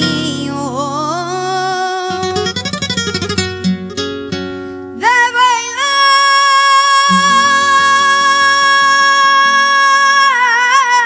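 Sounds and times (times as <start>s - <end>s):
boy singing flamenco: 0.0s - 3.3s, 5.0s - 11.0s
flamenco guitar: 0.0s - 11.0s.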